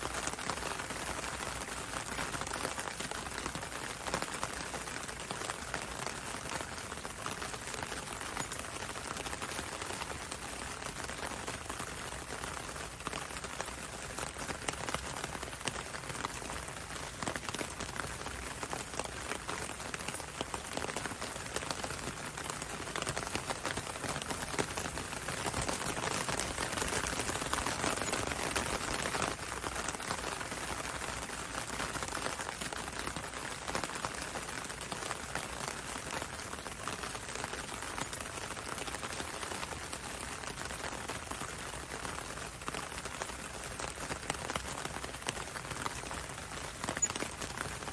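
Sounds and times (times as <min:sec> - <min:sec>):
rain pattering on window and road: 0:00.0 - 0:47.9.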